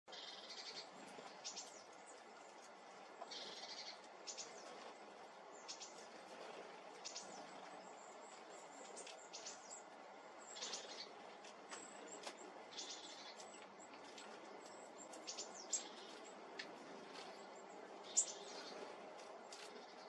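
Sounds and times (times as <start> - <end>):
birds chirping and trilling: 0.1 - 20.0.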